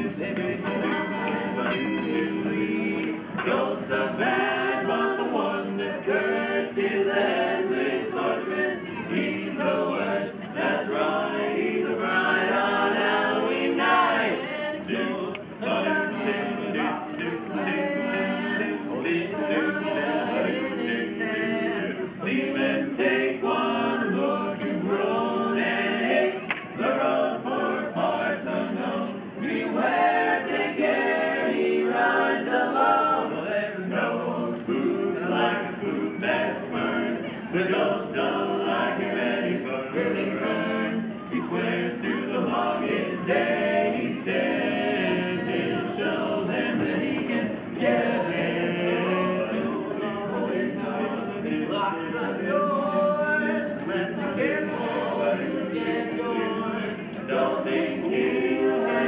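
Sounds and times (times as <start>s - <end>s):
men singing a cappella: 0.0s - 59.0s.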